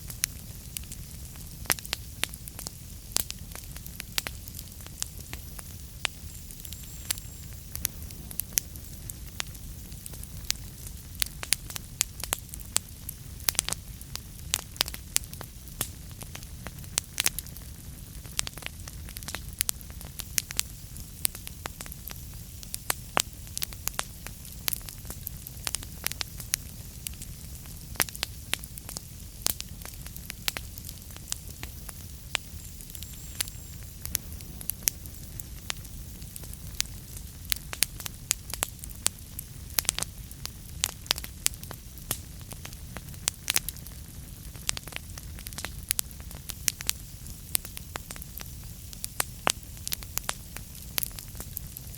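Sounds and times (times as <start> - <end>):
low rumble of burning fire: 0.0 - 51.9
wood fire crackling and popping: 0.0 - 51.9.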